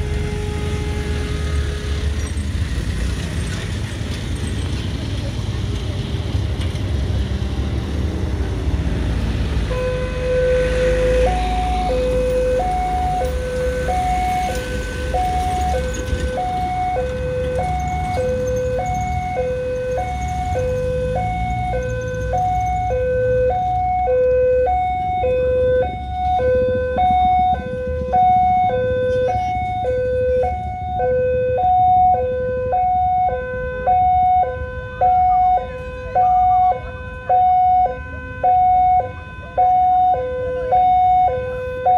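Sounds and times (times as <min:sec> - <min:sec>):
two-tone level crossing siren: 0:00.0 - 0:02.4, 0:09.6 - 0:41.9
road traffic rumble: 0:00.0 - 0:41.9.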